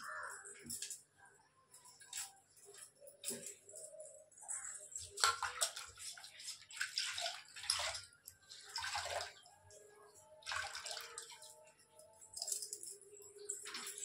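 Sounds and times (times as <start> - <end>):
water splashing and trickling: 1.8 - 14.0.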